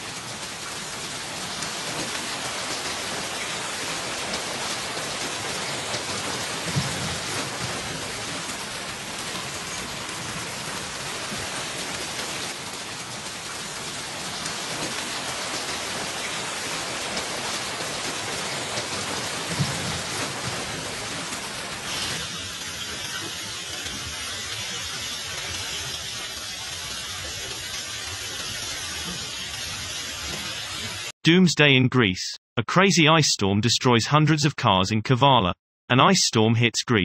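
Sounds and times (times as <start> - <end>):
hail and rain pelting: 0.0 - 31.1.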